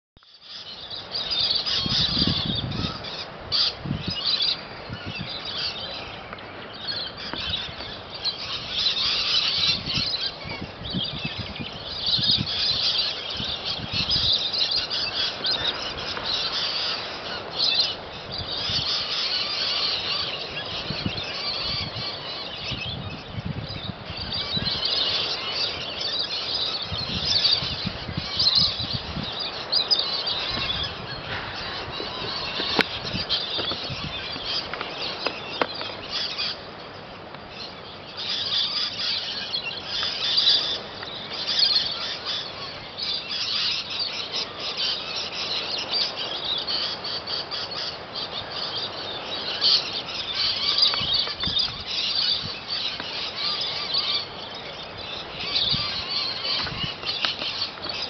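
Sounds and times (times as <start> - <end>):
lorikeets screeching and chattering: 0.3 - 58.0.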